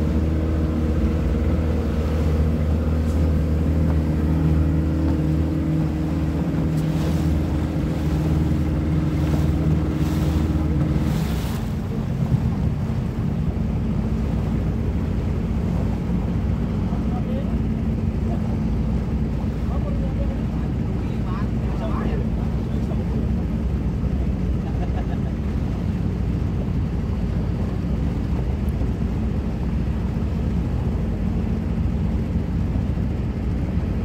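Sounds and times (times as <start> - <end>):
motorboat engine humming: 0.0 - 34.0
water washing past hull: 0.0 - 34.0.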